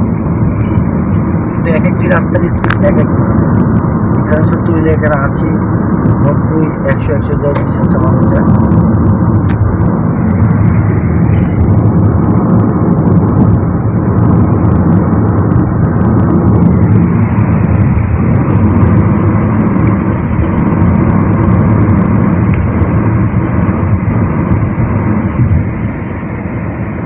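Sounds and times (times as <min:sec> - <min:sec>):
road and tyre noise: 0:00.0 - 0:27.0.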